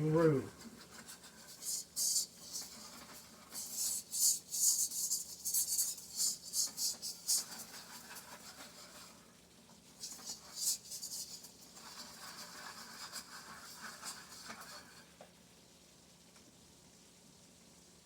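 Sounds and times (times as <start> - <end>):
utensil scraping in a pan: 0.0 - 15.3.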